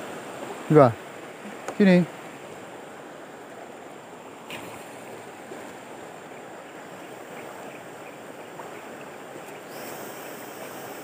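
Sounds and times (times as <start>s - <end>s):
river water running over rocks: 0.0s - 11.0s.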